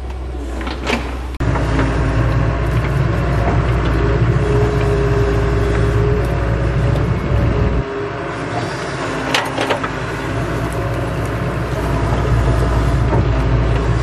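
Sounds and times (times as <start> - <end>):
excavator diesel engine under load: 0.0 - 14.0
steady whine: 0.0 - 14.0.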